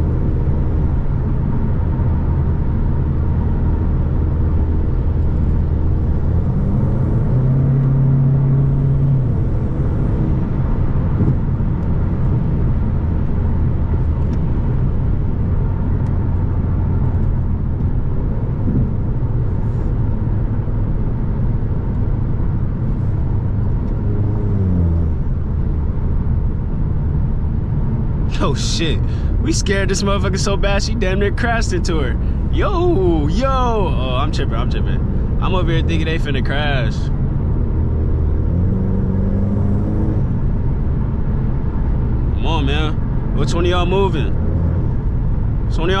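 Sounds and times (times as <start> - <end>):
car engine droning: 0.0 - 46.0.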